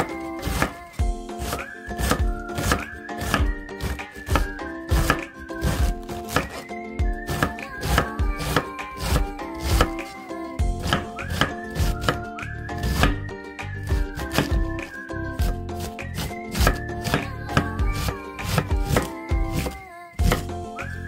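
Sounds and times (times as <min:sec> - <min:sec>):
knife chopping on wooden board: 0:00.0 - 0:00.8, 0:01.4 - 0:10.1, 0:10.7 - 0:12.2, 0:12.8 - 0:13.2, 0:14.2 - 0:20.5
background music: 0:00.0 - 0:21.0.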